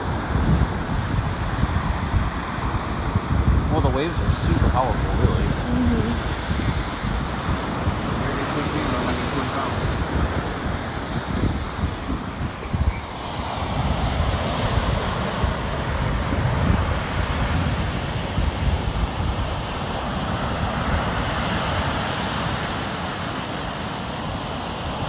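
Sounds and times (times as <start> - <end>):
ocean surf breaking: 0.0 - 25.0
wind gusting on microphone: 0.0 - 25.0.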